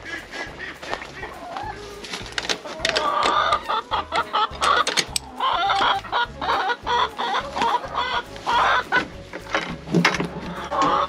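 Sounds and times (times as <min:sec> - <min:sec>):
background music with low beat: 0:00.0 - 0:11.0
chickens clucking: 0:00.0 - 0:11.0.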